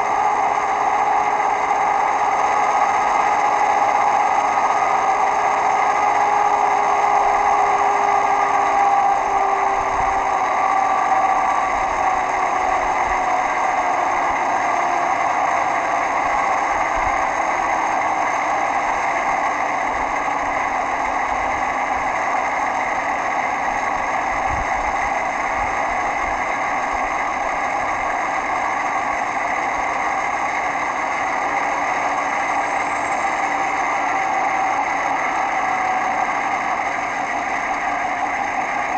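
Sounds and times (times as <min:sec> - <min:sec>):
diesel locomotive engine: 0:00.0 - 0:38.9.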